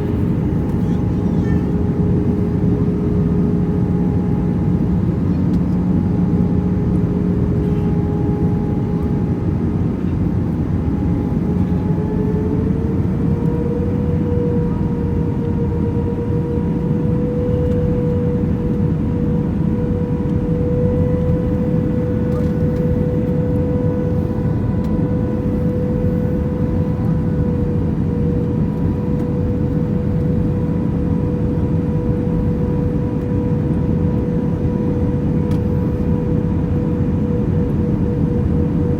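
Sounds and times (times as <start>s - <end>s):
airliner engines roaring: 0.0s - 38.9s
engine whine: 0.0s - 38.9s.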